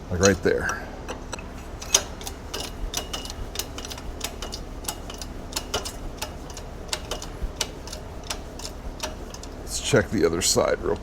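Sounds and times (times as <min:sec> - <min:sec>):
light clicks of tools handled: 0:00.2 - 0:09.7.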